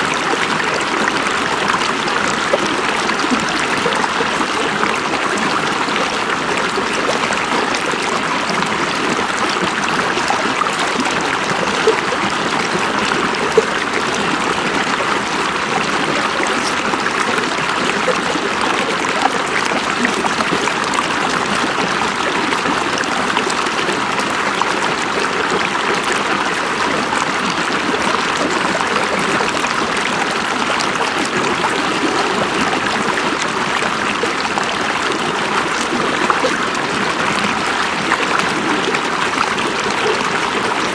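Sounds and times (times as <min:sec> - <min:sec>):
river water rushing over rocks: 0:00.0 - 0:40.9
small water splashes: 0:00.0 - 0:40.9.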